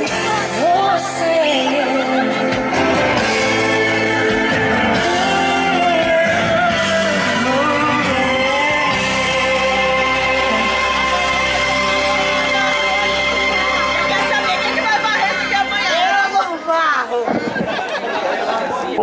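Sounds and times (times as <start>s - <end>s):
song over loudspeakers: 0.0s - 17.7s.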